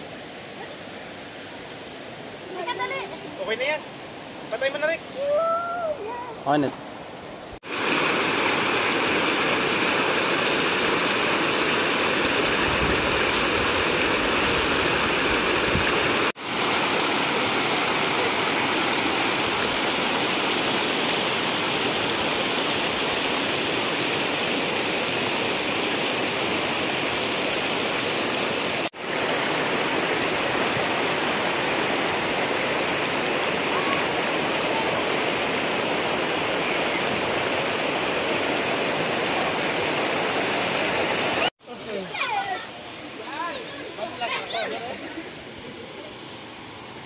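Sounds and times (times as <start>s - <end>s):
river current rushing: 0.0s - 47.0s.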